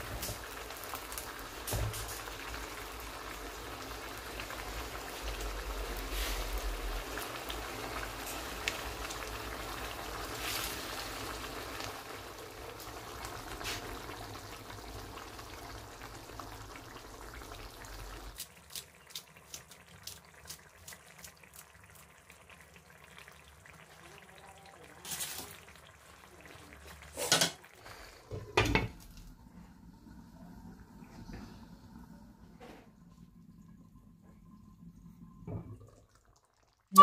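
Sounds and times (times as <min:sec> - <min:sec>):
gravy bubbling: 0:00.0 - 0:37.0.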